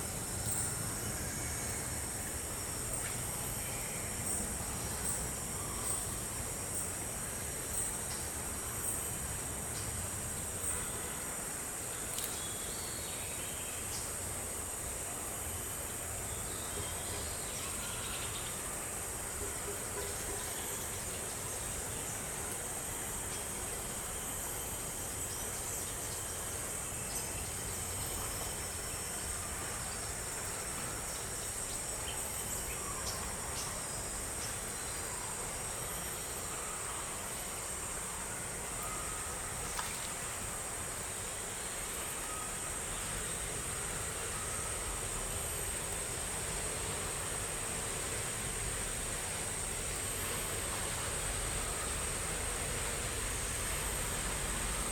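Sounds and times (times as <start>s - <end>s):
insect chorus drone: 0.0s - 54.9s
low background hiss: 0.0s - 54.9s.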